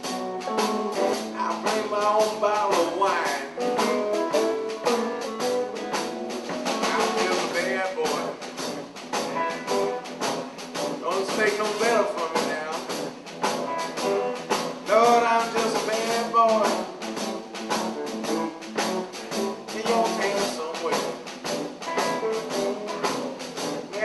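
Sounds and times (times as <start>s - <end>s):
electric guitar: 0.0s - 24.0s
steady drum beat: 0.0s - 24.0s.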